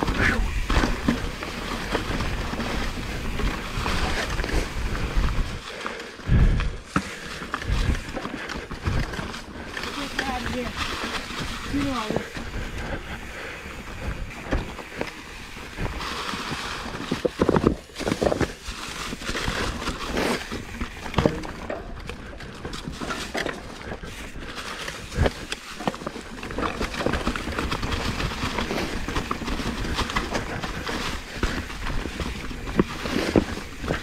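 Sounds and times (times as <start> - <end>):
bike clattering over rocks: 0.0 - 34.0.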